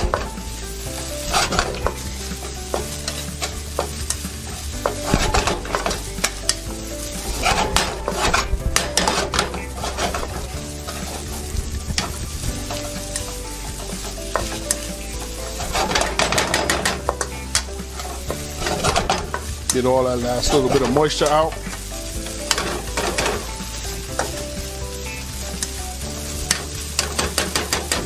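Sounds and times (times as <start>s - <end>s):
rice sizzling in wok: 0.0s - 28.0s
spatula scraping and clacking on wok: 0.0s - 28.0s.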